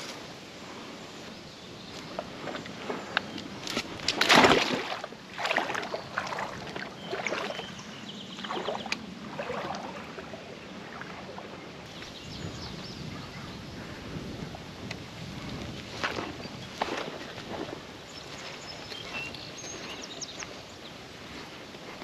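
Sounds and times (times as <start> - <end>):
water splashing and sloshing: 1.9 - 12.3, 14.5 - 22.0.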